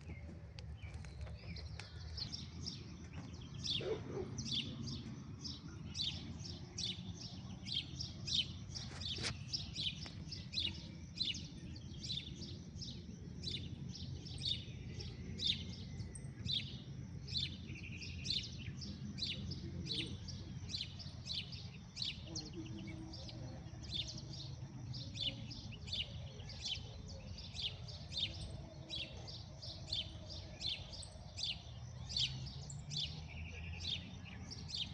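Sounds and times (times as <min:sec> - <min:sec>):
low steady background noise: 0:00.0 - 0:34.9
small birds chirping: 0:00.0 - 0:34.9.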